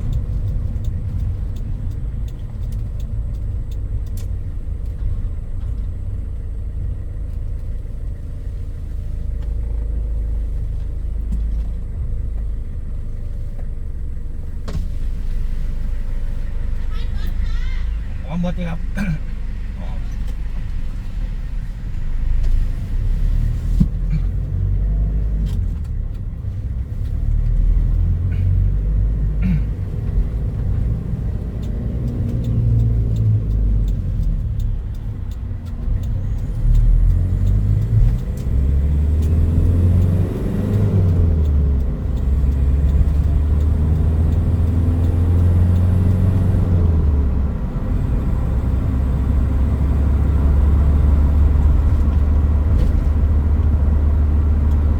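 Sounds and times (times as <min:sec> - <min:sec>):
low road rumble: 0:00.0 - 0:54.9
pickup engine running: 0:00.0 - 0:54.9.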